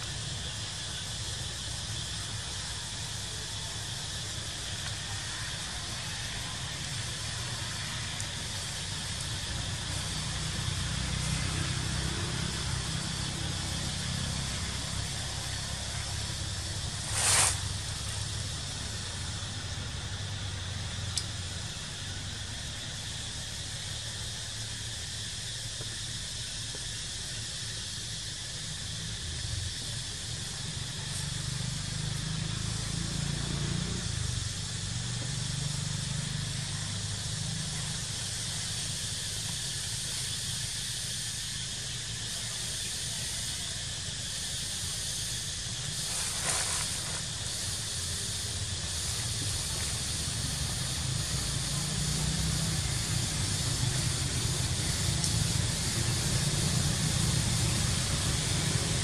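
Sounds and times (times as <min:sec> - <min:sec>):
high hiss: 0:00.0 - 0:59.0.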